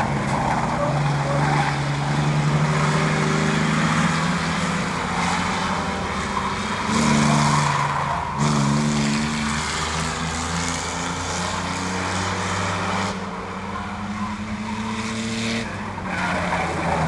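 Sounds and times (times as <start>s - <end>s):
racing truck engines passing: 0.0s - 17.0s.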